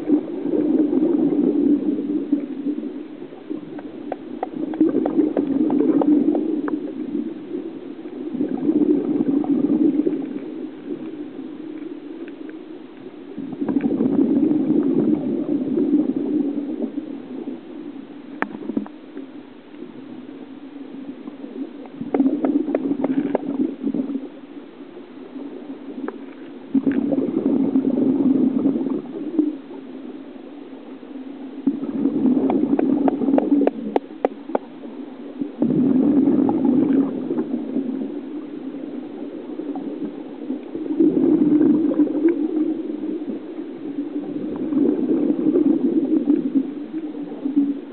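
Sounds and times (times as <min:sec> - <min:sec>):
scuba regulator bubbles underwater: 0:00.0 - 0:47.9.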